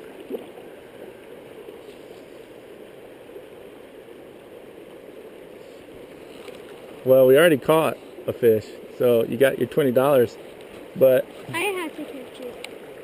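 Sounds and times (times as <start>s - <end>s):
creek water flowing over rocks: 0.0s - 13.0s.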